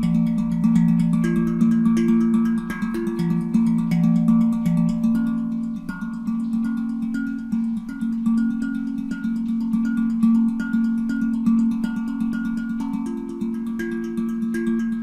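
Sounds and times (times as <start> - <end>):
handpan played by hand: 0.0 - 15.0.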